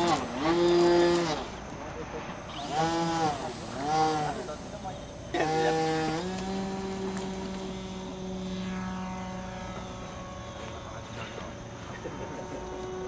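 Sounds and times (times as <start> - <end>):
model aircraft motor and propeller: 0.0 - 13.0.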